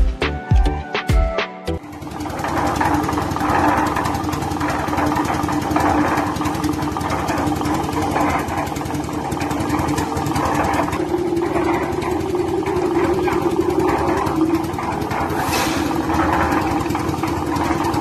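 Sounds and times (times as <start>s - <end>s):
concrete mixer engine running: 1.8s - 18.0s.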